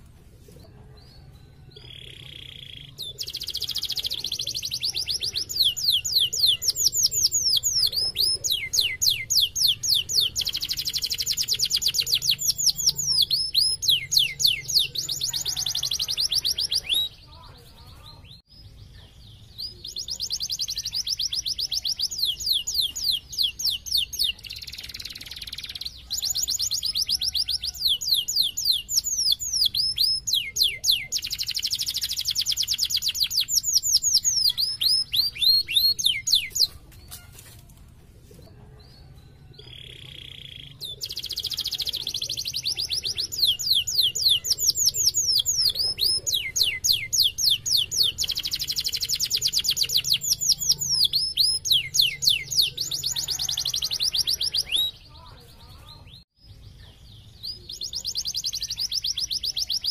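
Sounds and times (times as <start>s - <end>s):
canary trilling: 1.8s - 17.6s, 19.6s - 37.4s, 39.6s - 55.1s.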